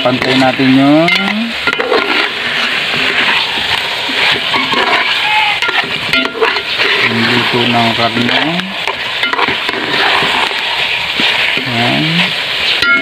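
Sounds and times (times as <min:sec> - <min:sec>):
chicken sizzling in curry: 0:00.0 - 0:13.0
metal ladle scraping pot: 0:00.0 - 0:13.0.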